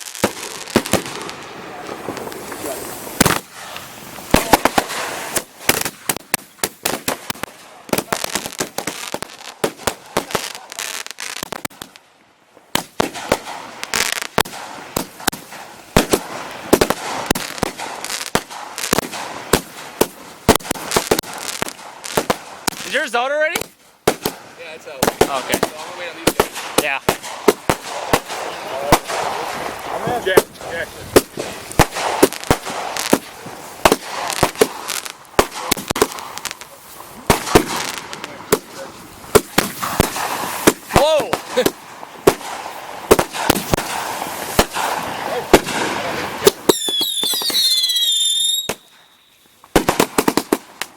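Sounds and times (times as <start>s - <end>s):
firework bangs: 0.0s - 50.9s
firework crackling: 0.0s - 50.9s.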